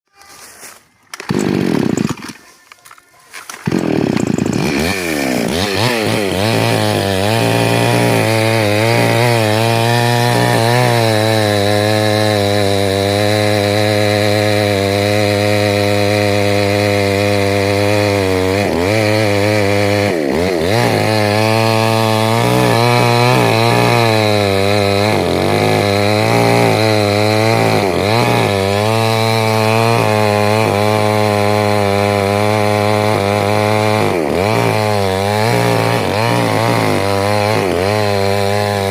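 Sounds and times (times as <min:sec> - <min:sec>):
chainsaw cutting wood: 0:00.1 - 0:38.9.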